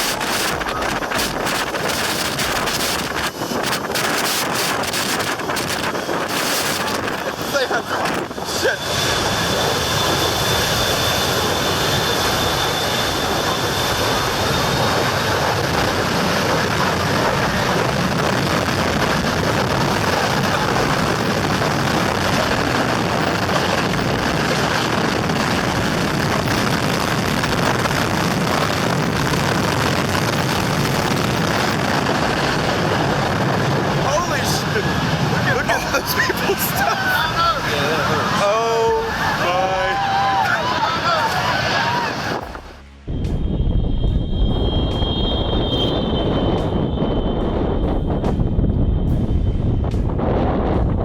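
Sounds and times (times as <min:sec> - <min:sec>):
high-pitched engine whine: 0:00.0 - 0:51.0
jet engines roaring: 0:00.0 - 0:51.0.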